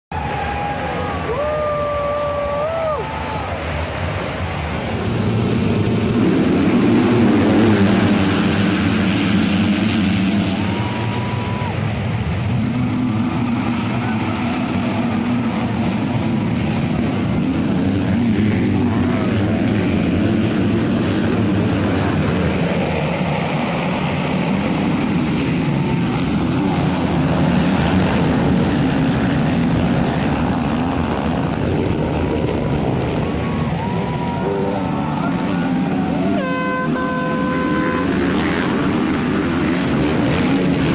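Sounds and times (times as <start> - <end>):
dirt bike engines revving: 0.2 - 40.9.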